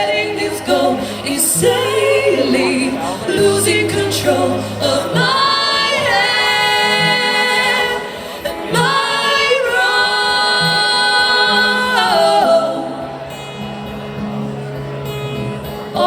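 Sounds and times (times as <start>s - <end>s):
woman singing long notes: 0.0s - 13.0s
acoustic guitar notes: 0.0s - 16.0s.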